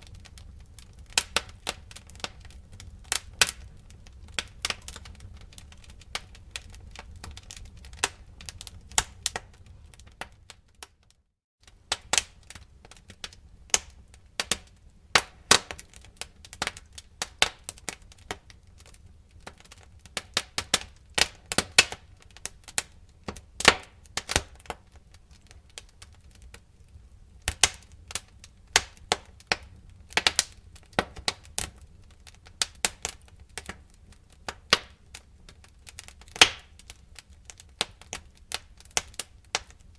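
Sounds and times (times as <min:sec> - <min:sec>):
low rumble of flames: 0:00.0 - 0:11.0, 0:11.6 - 0:39.9
wood fire crackling and popping: 0:00.0 - 0:39.9.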